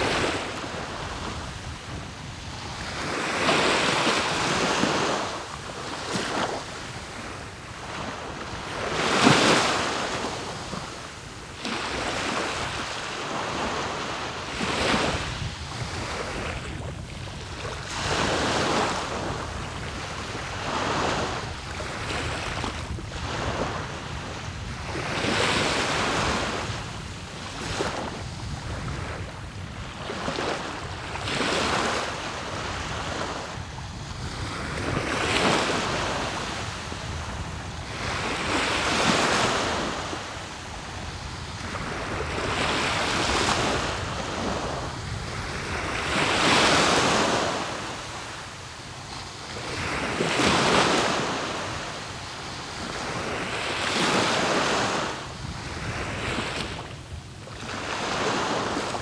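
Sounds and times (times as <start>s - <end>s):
low rumble of sea: 0.0s - 54.1s
waves breaking on shore: 0.0s - 59.0s.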